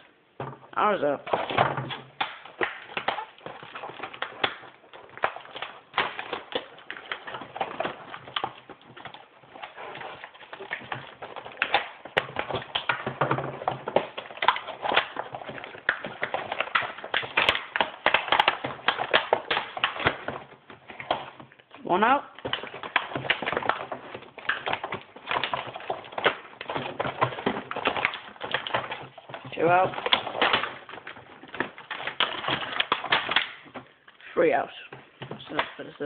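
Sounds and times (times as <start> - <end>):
plastic and cardboard packaging crackling: 0.0 - 36.0.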